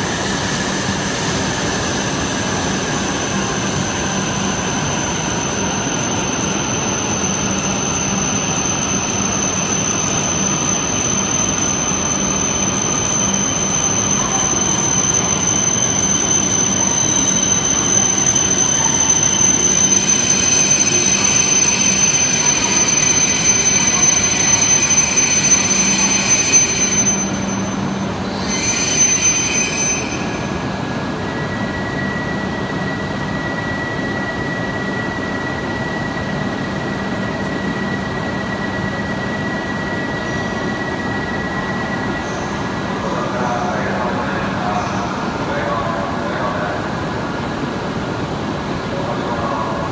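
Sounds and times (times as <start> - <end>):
train wheels and brakes squealing: 0.0 - 47.1
standing train hum and whine: 0.0 - 49.9.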